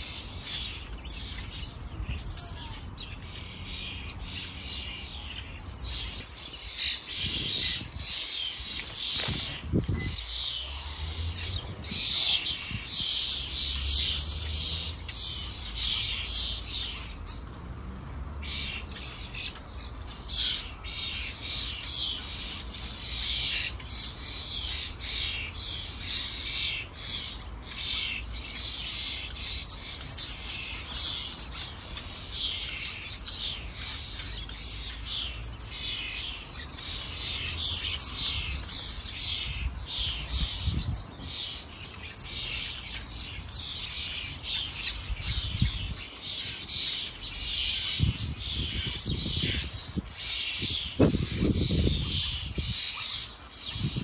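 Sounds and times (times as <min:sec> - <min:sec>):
songbirds chirping and singing: 0:00.0 - 0:54.0.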